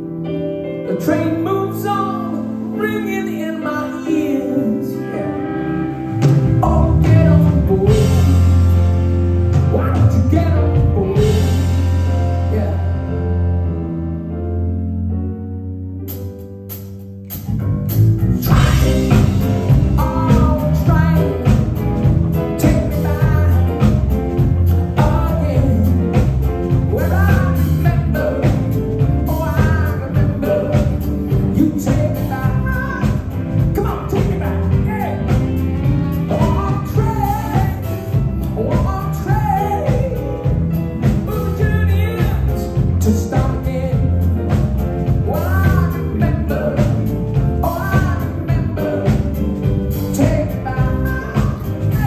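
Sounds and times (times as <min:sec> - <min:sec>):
live band music: 0:00.0 - 0:52.0
man singing: 0:00.7 - 0:13.4, 0:18.4 - 0:52.0.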